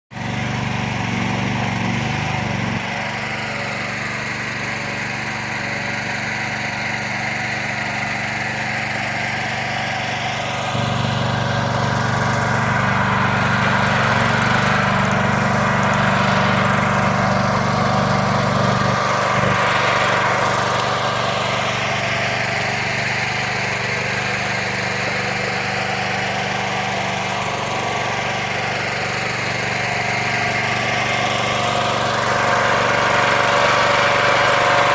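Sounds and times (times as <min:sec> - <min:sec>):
log splitter engine running: 0:00.1 - 0:34.9.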